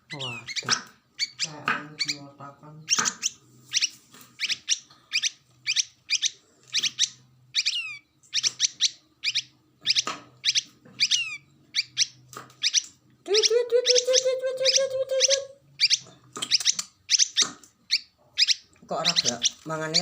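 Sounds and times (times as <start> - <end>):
birds chirping high: 0.0 - 20.0.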